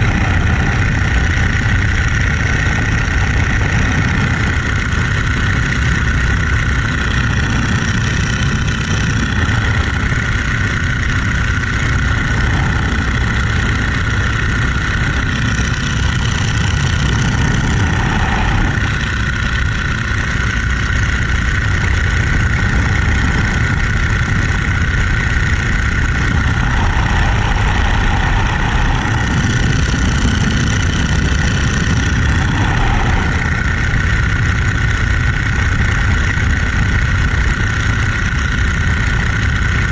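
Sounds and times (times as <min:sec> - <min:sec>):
biplane engine droning: 0:00.0 - 0:39.9.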